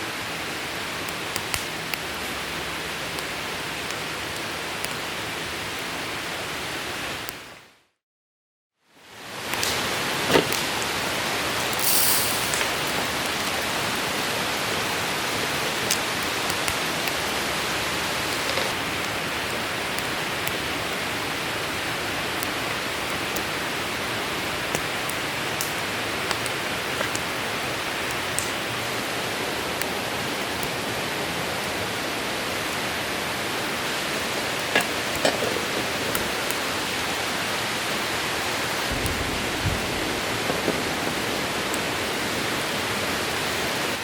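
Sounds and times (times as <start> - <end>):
campfire hiss: 0.0 - 7.6, 8.8 - 44.0
fire crackles and pops: 0.1 - 7.6, 9.0 - 44.0.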